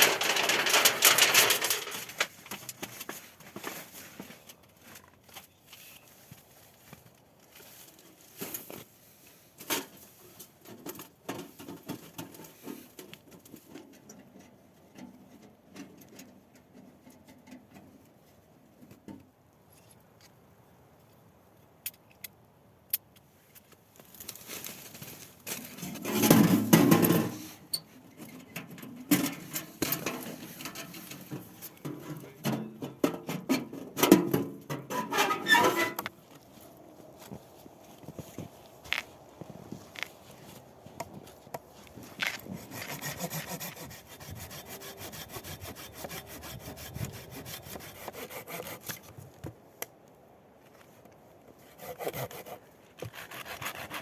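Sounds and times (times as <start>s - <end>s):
rustling and scraping: 0.0s - 20.4s, 23.3s - 49.6s.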